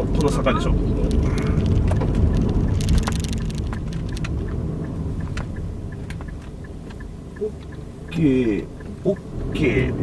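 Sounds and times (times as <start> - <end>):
engine and tyre rumble: 0.0 - 10.0
sharp clicks: 1.0 - 10.0.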